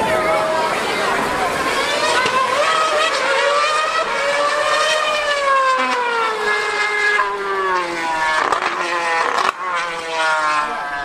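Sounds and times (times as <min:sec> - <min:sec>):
high-revving racing engine: 0:00.0 - 0:11.0.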